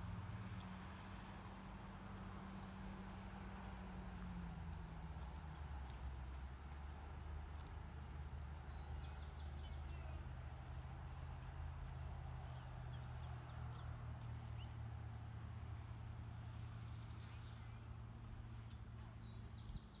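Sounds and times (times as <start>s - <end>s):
songbirds chirping and trilling: 2.4s - 20.0s.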